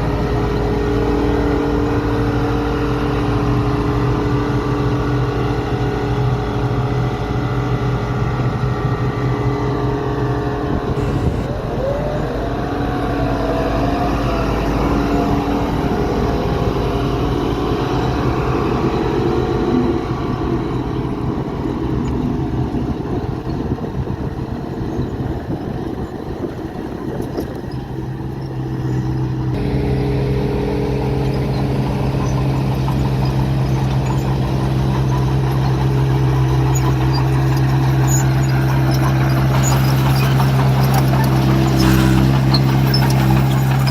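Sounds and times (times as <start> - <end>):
heavy machinery diesel engines: 0.0 - 43.9.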